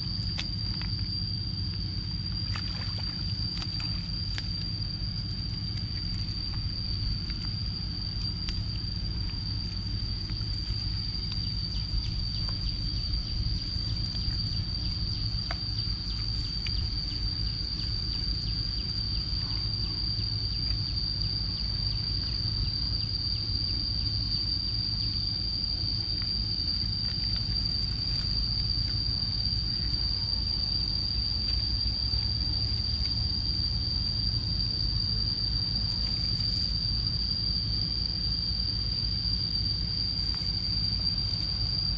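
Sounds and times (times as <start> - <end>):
insects droning: 0.0 - 41.9
low rumble: 0.0 - 41.9.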